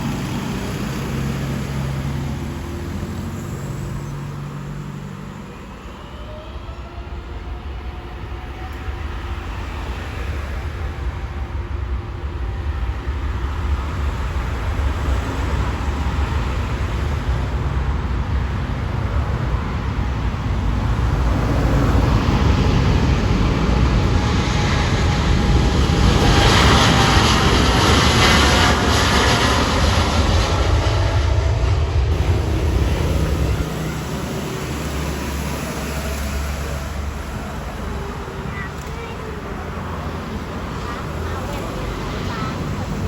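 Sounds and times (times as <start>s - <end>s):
aircraft engine passing: 0.0s - 43.0s
steady low rumble: 7.0s - 43.0s.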